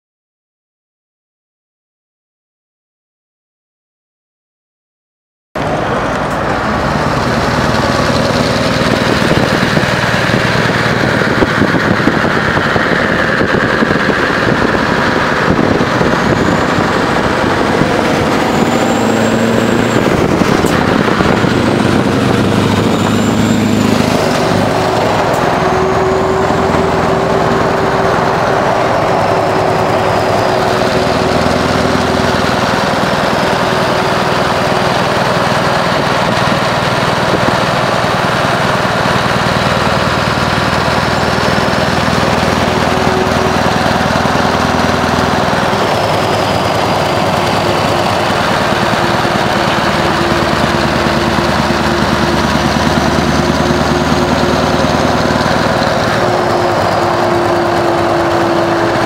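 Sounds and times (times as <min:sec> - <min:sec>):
steady whine: 0:05.6 - 0:59.0
truck diesel engine running: 0:05.6 - 0:59.0
tyre and road noise: 0:05.6 - 0:59.0.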